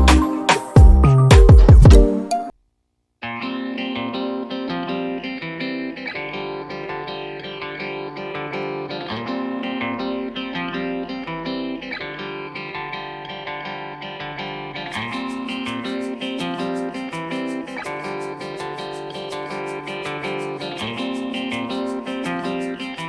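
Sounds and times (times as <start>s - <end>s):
plucked guitar music: 0.0s - 2.5s, 3.2s - 23.0s.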